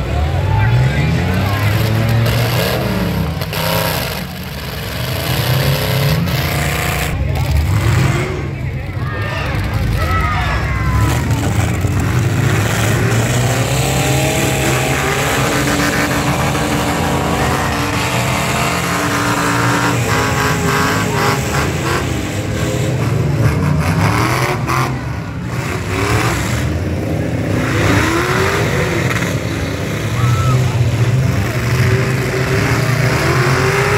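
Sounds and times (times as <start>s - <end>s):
truck engines revving: 0.0s - 33.9s.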